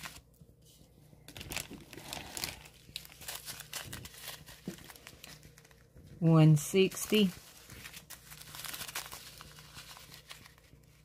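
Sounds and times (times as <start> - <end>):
plastic bags crinkling: 1.2 - 11.0.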